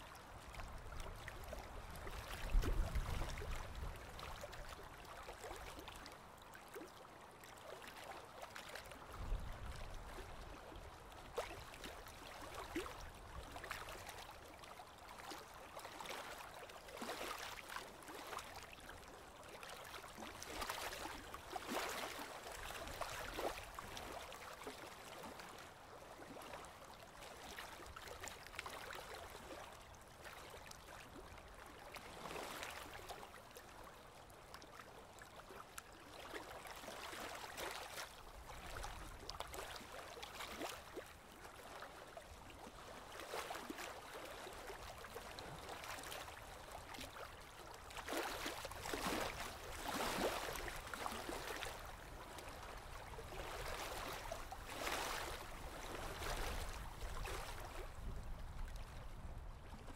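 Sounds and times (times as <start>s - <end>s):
small waves lapping at shore: 0.0s - 59.9s.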